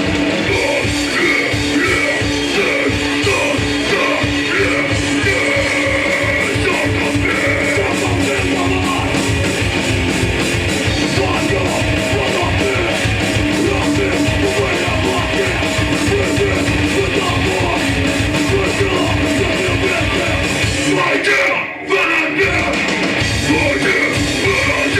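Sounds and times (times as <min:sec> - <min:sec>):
distorted electric guitars: 0:00.0 - 0:24.9
fast drums: 0:00.0 - 0:24.9.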